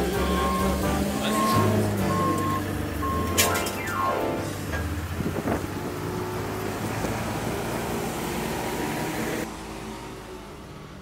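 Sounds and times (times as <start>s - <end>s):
telehandler diesel engine passing: 0.0s - 11.0s.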